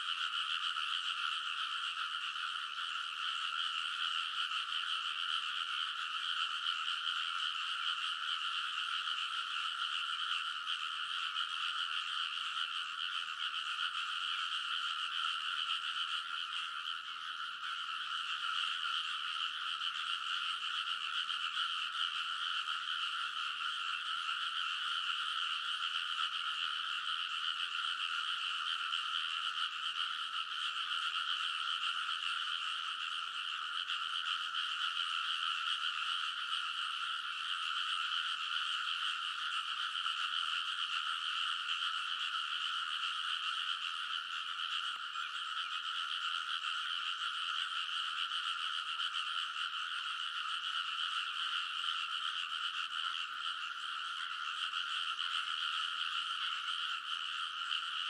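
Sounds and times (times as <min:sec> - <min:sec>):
frog chorus croaking: 0:00.0 - 0:58.0.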